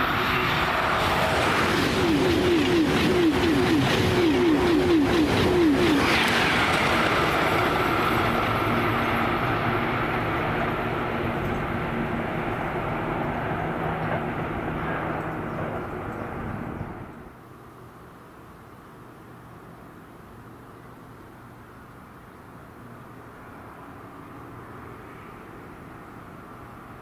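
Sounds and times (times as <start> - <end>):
high-speed train passing: 0.0 - 18.1, 22.6 - 27.0.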